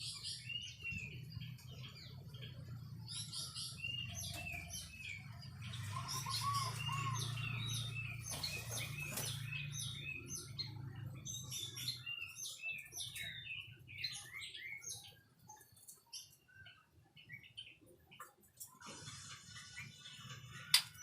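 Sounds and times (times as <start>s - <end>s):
songbird chirping and whistling: 0.0s - 17.8s.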